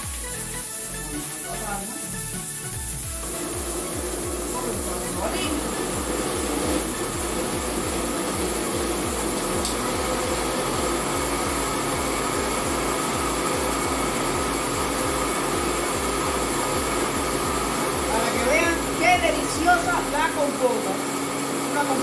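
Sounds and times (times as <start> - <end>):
blender running: 0.0 - 22.0.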